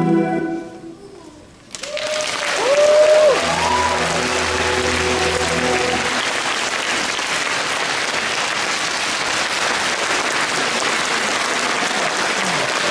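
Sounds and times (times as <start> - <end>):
audience applauding: 1.7 - 12.9.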